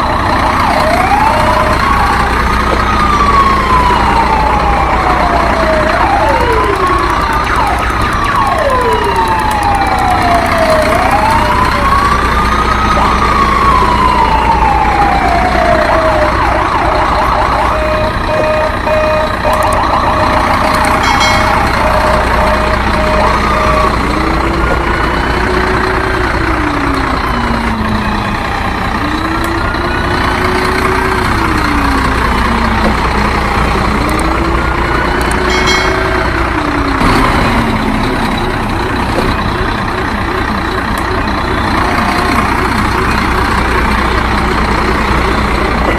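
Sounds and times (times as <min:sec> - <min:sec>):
low engine-like hum: 0:00.0 - 0:45.9
sirens wailing: 0:00.0 - 0:45.9.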